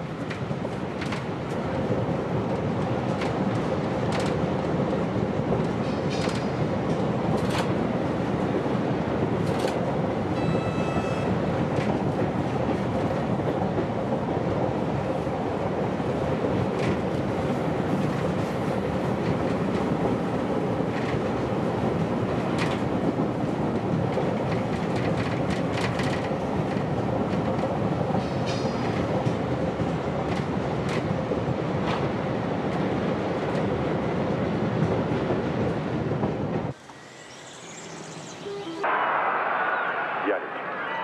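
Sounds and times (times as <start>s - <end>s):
train wheels clicking on rails: 0.0s - 37.0s
train running noise inside carriage: 0.0s - 41.0s.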